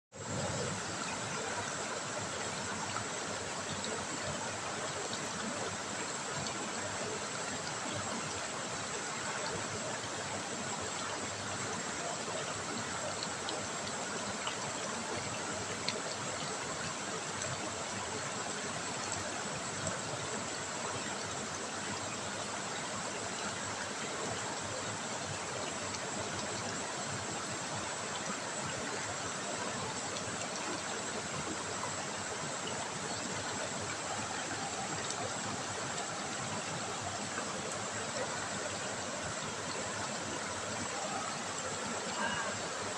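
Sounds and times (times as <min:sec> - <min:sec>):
river water running over stones: 0:00.1 - 0:42.9
faint water drips: 0:00.4 - 0:42.9.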